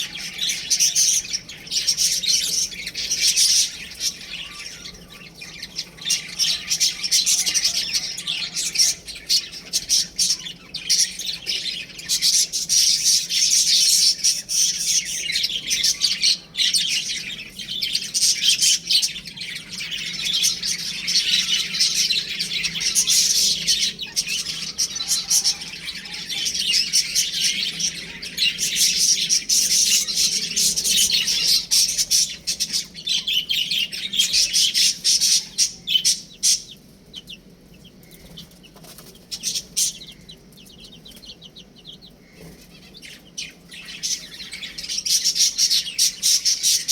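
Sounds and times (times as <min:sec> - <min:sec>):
baby chicks peeping: 0:00.0 - 0:46.9.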